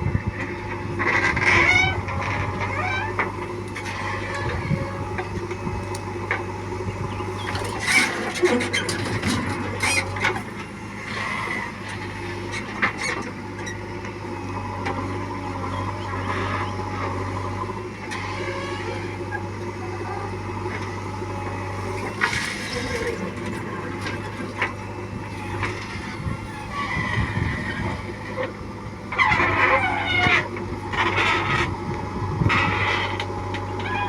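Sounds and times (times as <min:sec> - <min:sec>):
diesel machinery running: 0:00.0 - 0:34.0.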